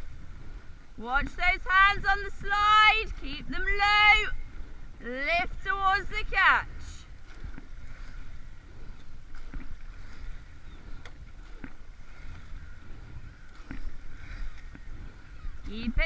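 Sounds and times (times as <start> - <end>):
water washing: 0.0 - 16.0
wind rumble on microphone: 0.0 - 16.0.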